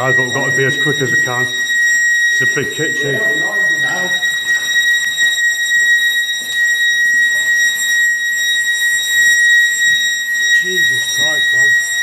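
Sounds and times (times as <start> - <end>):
high-pitched alarm tone: 0.0 - 12.0.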